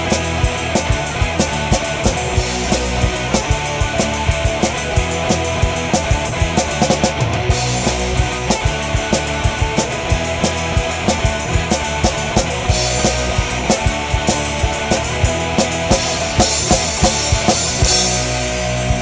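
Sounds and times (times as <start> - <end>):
rock music with fast drum beat: 0.0 - 19.0.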